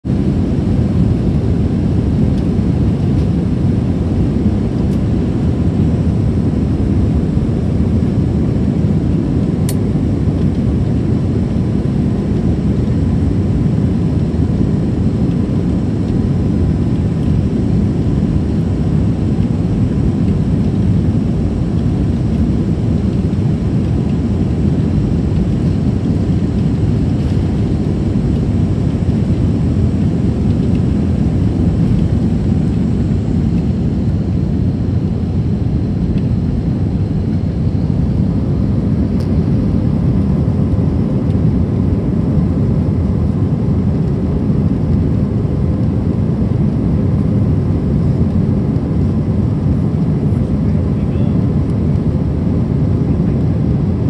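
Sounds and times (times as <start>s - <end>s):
deep rumble from runway: 0.0s - 54.0s
jet engines at takeoff power: 0.0s - 54.0s.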